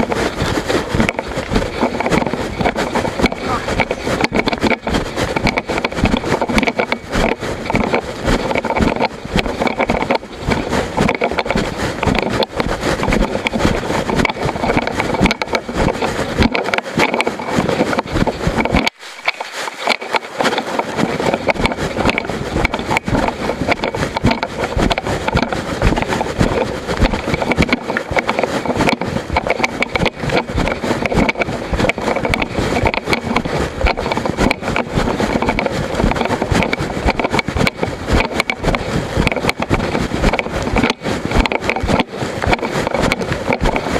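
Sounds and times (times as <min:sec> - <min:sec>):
camera rattling and scraping: 0:00.0 - 0:43.9.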